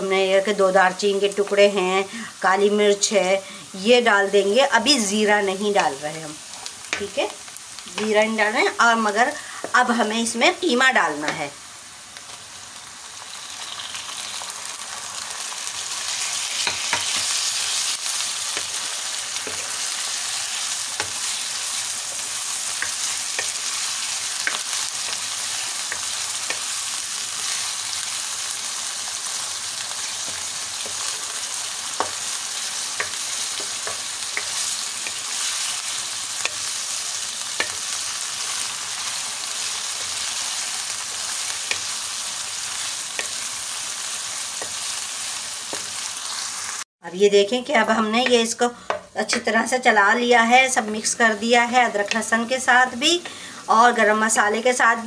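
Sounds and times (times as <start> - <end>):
meat sizzling in hot oil: 0.1 - 46.9, 49.5 - 55.0.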